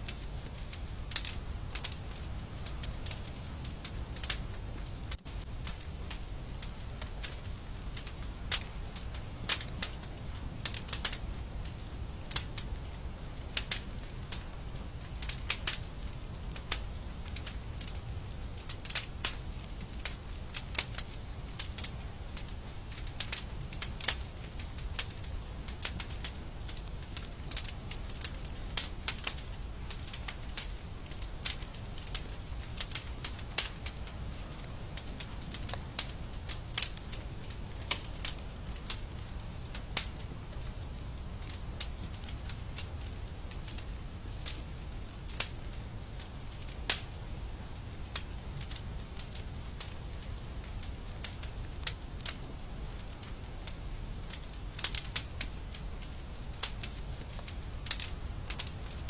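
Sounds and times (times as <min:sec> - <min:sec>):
low rumble of burning: 0:00.0 - 0:59.0
wood fire crackling: 0:00.0 - 0:59.0.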